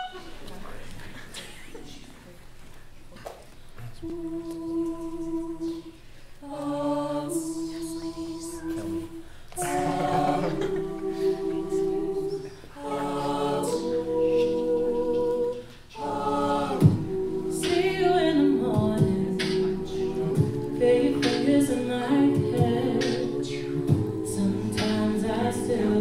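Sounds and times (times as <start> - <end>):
a cappella group singing chords: 3.8 - 26.0.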